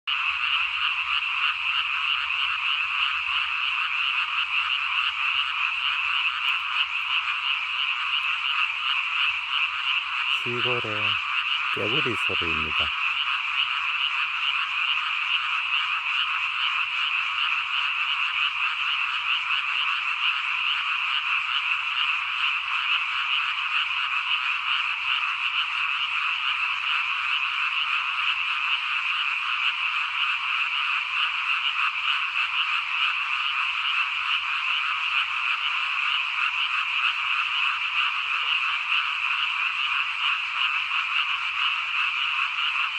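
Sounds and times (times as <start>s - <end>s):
chorus of frogs calling: 0.1s - 42.9s.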